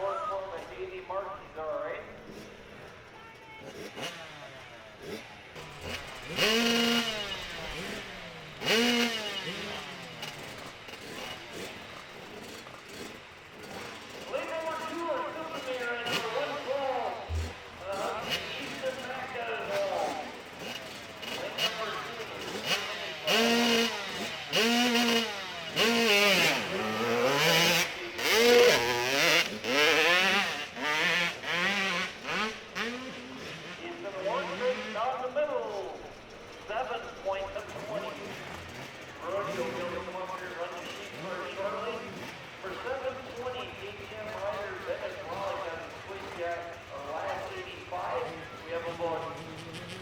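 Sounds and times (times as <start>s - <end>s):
motorcycle engine revving: 2.1s - 50.0s.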